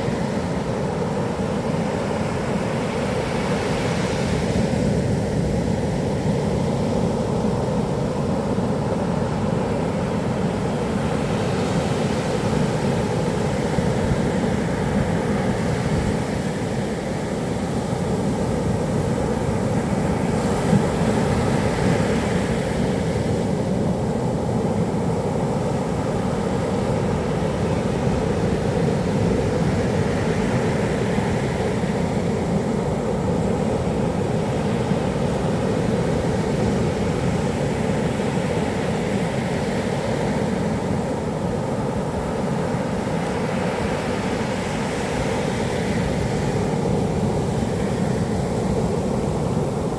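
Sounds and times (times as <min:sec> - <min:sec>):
low rumble of sea: 0:00.0 - 0:49.9.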